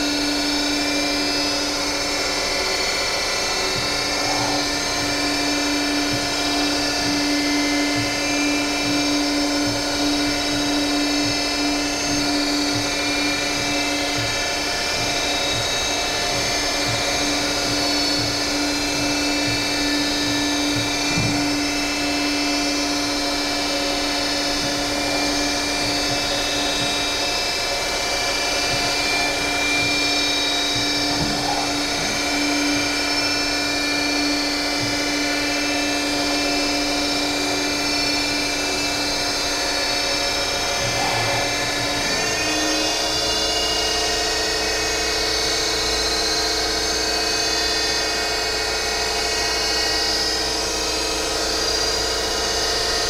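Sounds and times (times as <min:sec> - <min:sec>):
lathe whine: 0:00.0 - 0:53.0.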